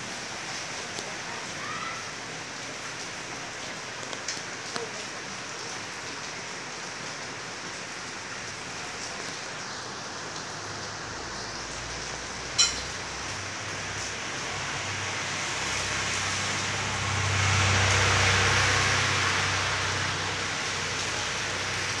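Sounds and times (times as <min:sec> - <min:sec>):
heavy rain on street: 0:00.0 - 0:22.0.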